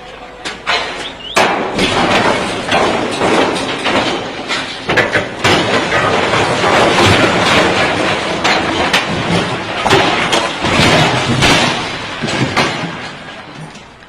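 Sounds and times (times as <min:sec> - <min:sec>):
heavy impact: 0:00.0 - 0:14.0
rough clatter with knocks: 0:00.4 - 0:14.0.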